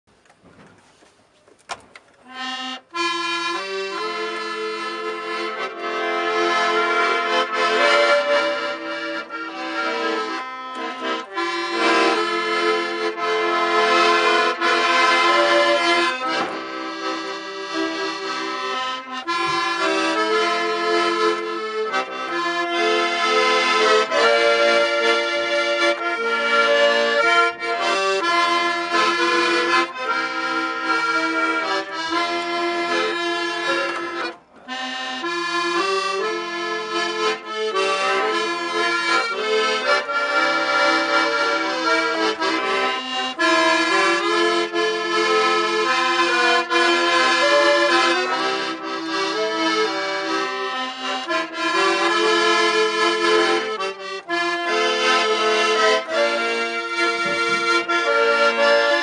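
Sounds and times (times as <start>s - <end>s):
accordion melody: 0.1s - 59.0s.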